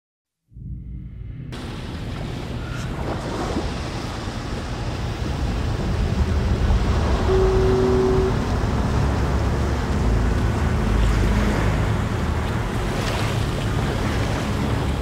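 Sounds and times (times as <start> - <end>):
small waves washing on shore: 1.6 - 15.0
wind buffeting microphone: 1.6 - 15.0.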